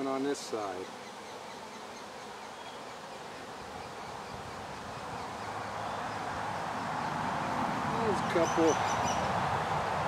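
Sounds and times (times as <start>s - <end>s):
honey bees buzzing: 0.0s - 10.0s.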